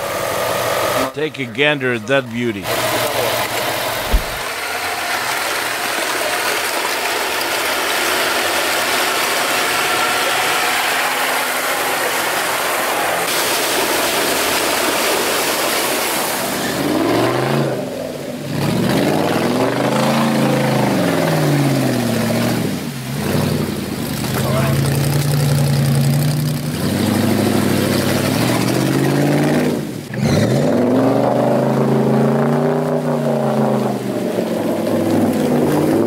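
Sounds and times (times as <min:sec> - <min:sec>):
engine revving in deep mud: 0:00.0 - 0:36.0
off-road engine running: 0:00.0 - 0:36.0
rushing water and spray: 0:02.6 - 0:36.0.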